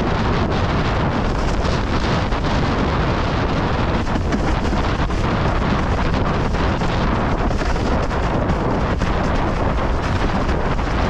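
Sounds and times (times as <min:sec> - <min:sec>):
deep rumble: 0:00.0 - 0:11.0
wind buffeting microphone: 0:00.0 - 0:11.0.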